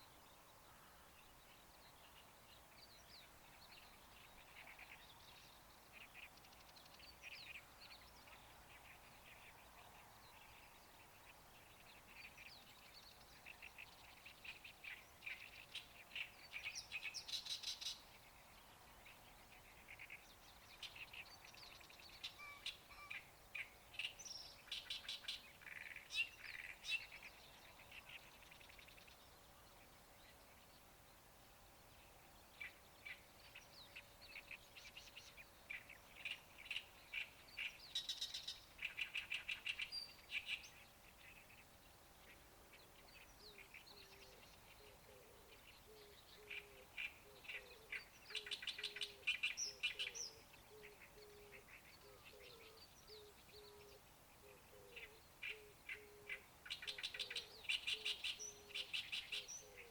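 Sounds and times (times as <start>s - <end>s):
faint outdoor hiss: 0.0s - 59.9s
songbird chirping: 0.0s - 59.9s.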